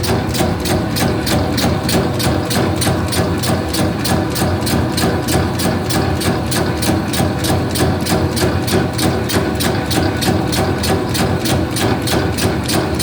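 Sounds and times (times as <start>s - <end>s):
rapid mechanical ticking: 0.0s - 13.0s.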